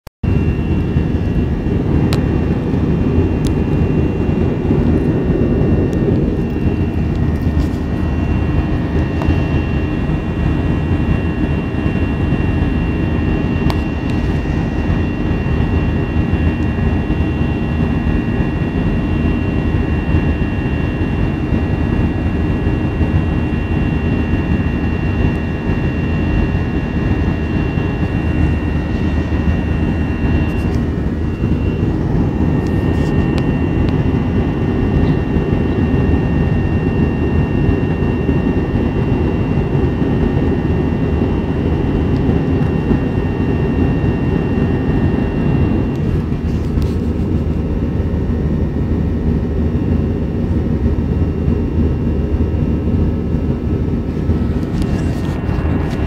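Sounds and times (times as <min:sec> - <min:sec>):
faint high whine: 0:00.2 - 0:56.0
jet engine and airflow rumble: 0:00.2 - 0:56.0.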